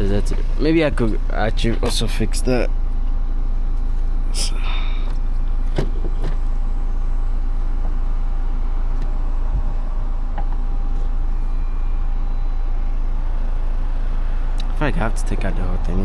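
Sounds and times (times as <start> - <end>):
car engine idling: 0.0 - 16.0
faint steady tone: 0.0 - 16.0.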